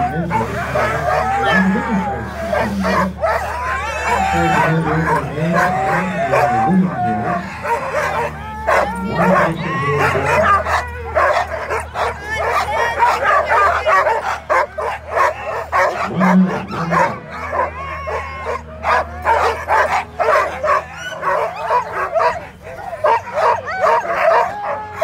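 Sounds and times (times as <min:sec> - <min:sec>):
dogs barking yipping and whining: 0:00.0 - 0:25.0.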